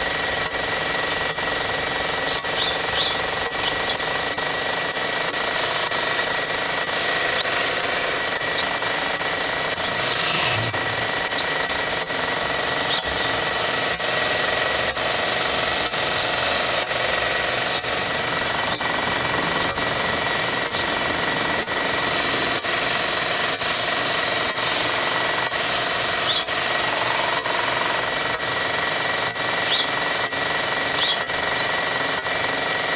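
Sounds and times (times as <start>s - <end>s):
belt grinder grinding wood: 0.0s - 32.9s.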